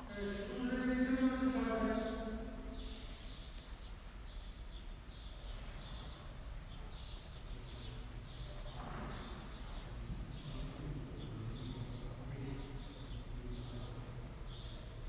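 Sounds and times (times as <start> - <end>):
low background hum: 0.0 - 15.0
small birds chirping: 0.1 - 15.0.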